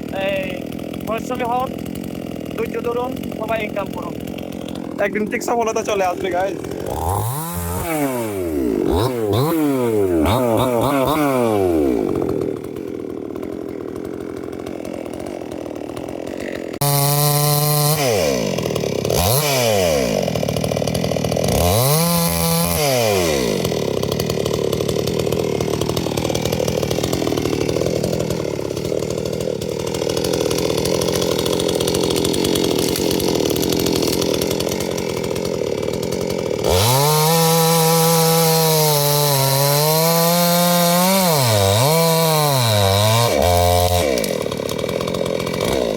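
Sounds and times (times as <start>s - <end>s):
chainsaw revving and cutting wood: 0.0s - 45.9s.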